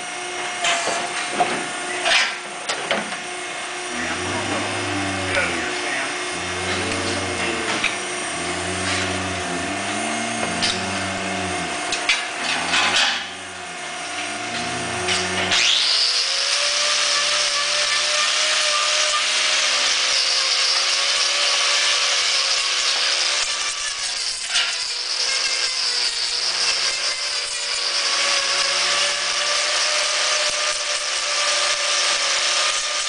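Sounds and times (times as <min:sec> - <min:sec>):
handheld grinder on hoof: 0:03.5 - 0:33.0.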